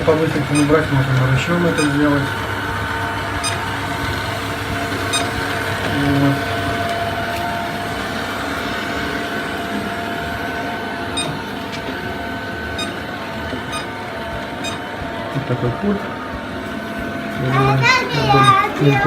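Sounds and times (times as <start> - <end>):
robot vacuum running: 0.0 - 19.0.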